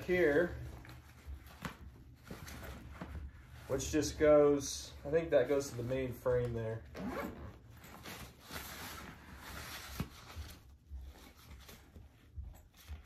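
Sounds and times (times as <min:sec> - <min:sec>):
nylon fabric rustling: 0:00.0 - 0:13.0.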